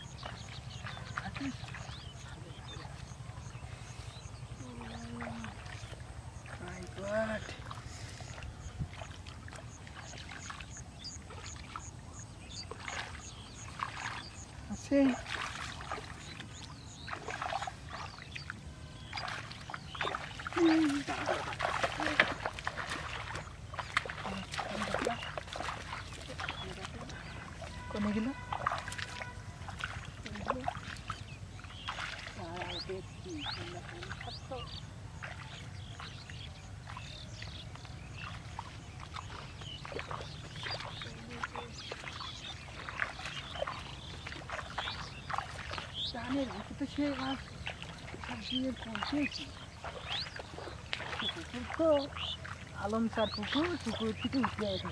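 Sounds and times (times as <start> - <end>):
shallow water splashing: 0.0 - 54.9.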